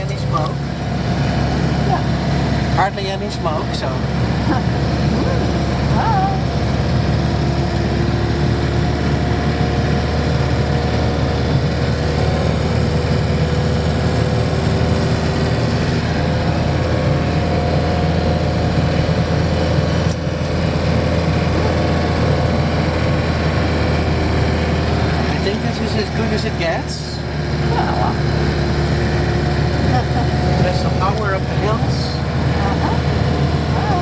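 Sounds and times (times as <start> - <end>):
van engine running: 0.0 - 34.0.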